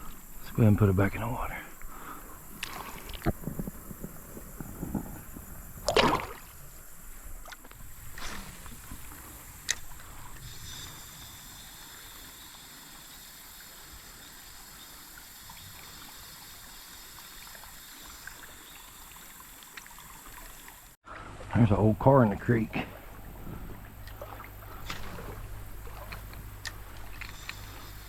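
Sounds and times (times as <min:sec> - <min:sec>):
creek water trickling: 0:00.0 - 0:28.0
water splashing in creek: 0:01.8 - 0:28.0.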